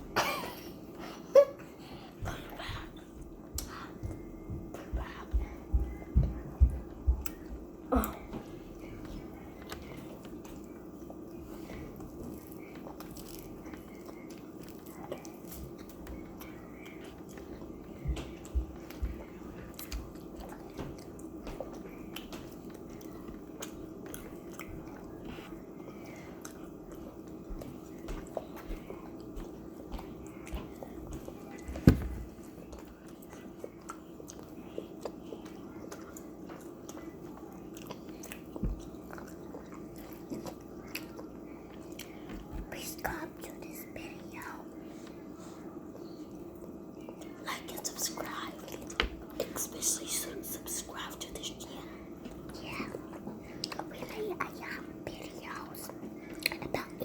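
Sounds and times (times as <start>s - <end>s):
people chewing food: 0.0s - 57.0s
steady low hum: 0.0s - 57.0s.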